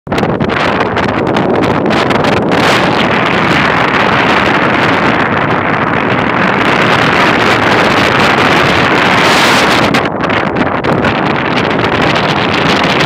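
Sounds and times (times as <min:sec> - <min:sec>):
wind on microphone: 0:00.1 - 0:13.0.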